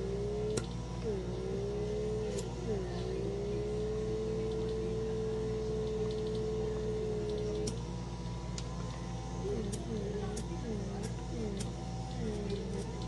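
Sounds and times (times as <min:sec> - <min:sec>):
small suction motor whining: 0:00.0 - 0:13.0.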